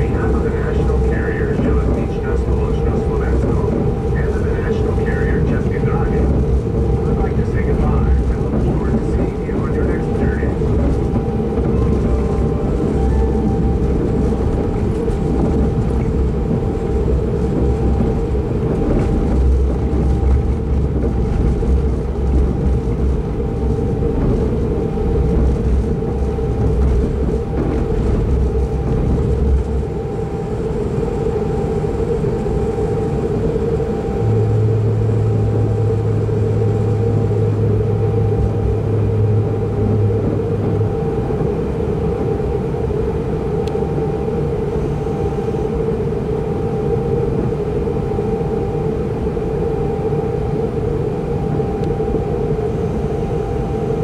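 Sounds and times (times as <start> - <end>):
deeper hum: 0.0 - 54.0
mid-pitched drone: 0.0 - 54.0
train wheels rumbling on rails: 0.0 - 54.0.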